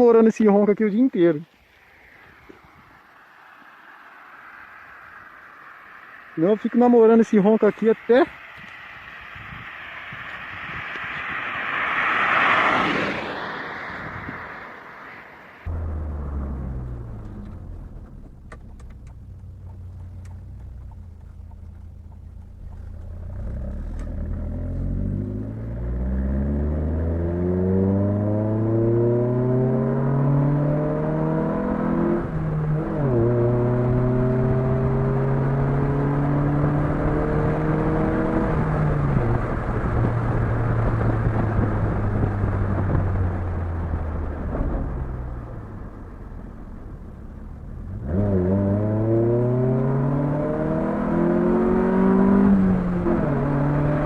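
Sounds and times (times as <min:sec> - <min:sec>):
car engine revving: 0:03.8 - 0:54.0.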